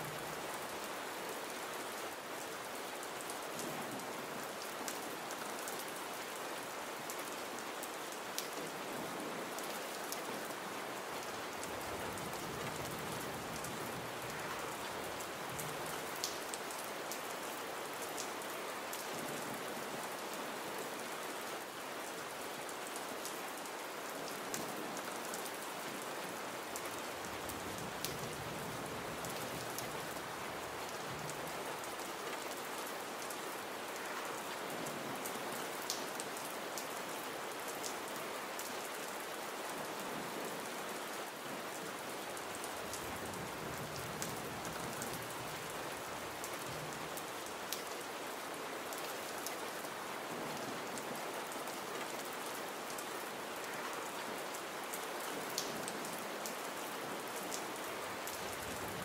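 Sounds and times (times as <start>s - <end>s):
gentle rain hissing: 0.0s - 59.0s.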